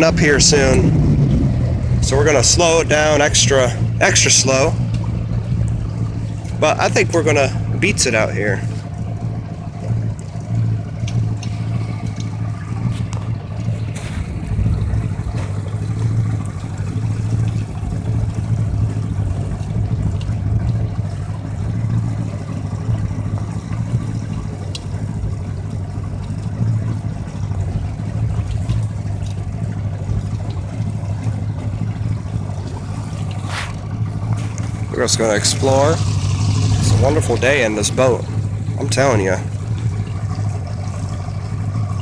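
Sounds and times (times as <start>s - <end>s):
outboard motor running: 0.0s - 42.0s.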